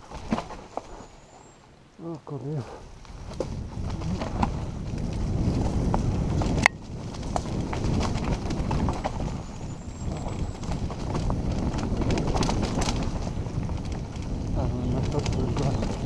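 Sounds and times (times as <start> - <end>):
bike rattles and knocks: 0.0 - 1.1, 3.1 - 16.0
tyres crunching over stones: 0.0 - 1.3, 2.8 - 16.0
wind rumble on microphone: 2.6 - 16.0.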